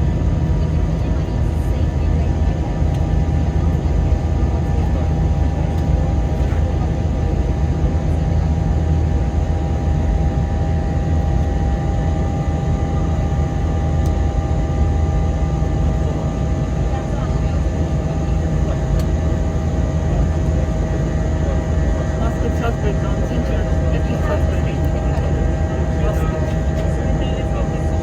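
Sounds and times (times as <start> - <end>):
airplane cabin drone: 0.0 - 28.0.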